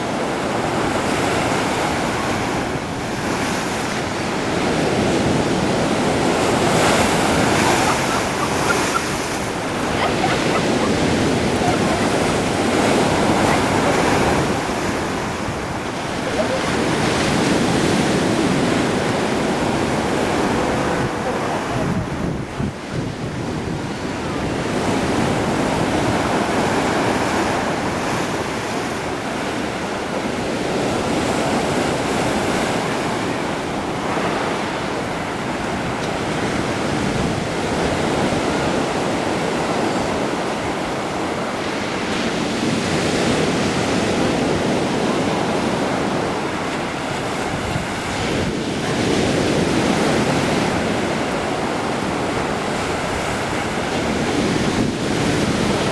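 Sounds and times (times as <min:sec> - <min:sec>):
waves breaking on shore: 0:00.0 - 0:55.9
wind buffeting microphone: 0:00.0 - 0:55.9.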